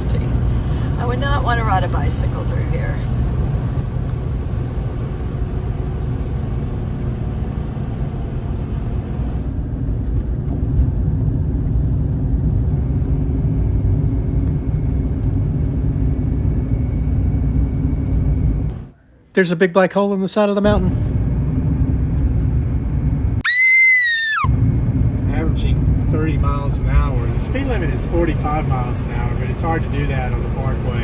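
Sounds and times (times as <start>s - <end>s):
engine and road rumble in a van: 0.0s - 19.0s, 20.6s - 23.5s, 24.4s - 31.0s.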